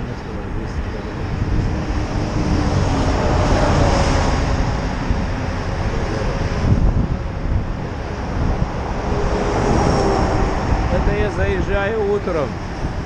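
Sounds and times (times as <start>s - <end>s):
highway traffic: 0.0s - 13.0s
wind buffeting microphone: 0.0s - 13.0s.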